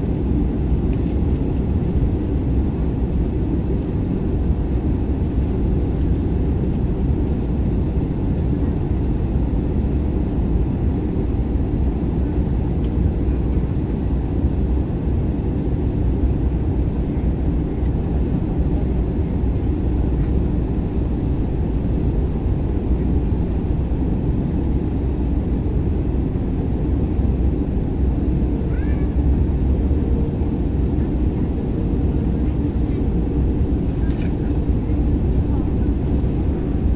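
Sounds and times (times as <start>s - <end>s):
jet engines rumbling in cabin: 0.0s - 36.9s.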